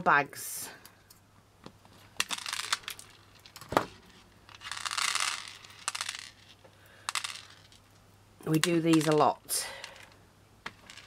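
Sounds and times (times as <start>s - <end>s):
beads clicking and rattling: 2.0s - 11.0s.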